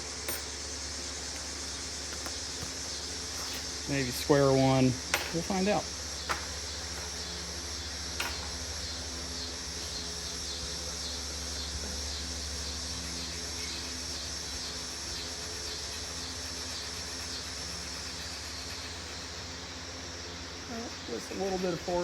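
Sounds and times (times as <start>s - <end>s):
insects chirping: 0.0s - 22.0s
low steady hum: 0.0s - 22.0s.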